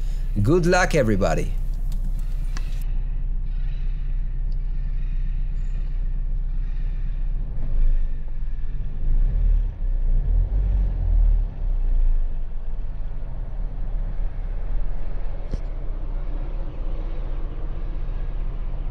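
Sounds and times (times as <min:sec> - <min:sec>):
diesel engine rumbling: 0:00.0 - 0:18.9.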